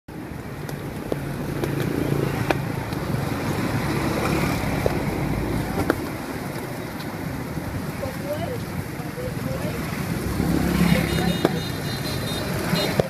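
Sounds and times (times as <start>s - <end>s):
vehicle engines running: 0.1s - 13.0s.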